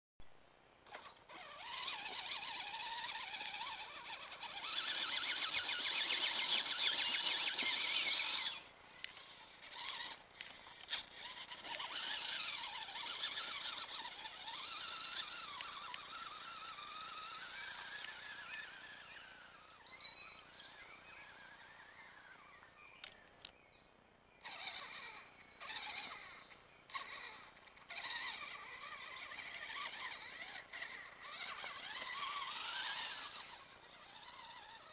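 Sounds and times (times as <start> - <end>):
toy truck electric motor whining: 0.8 - 23.2, 24.4 - 34.9.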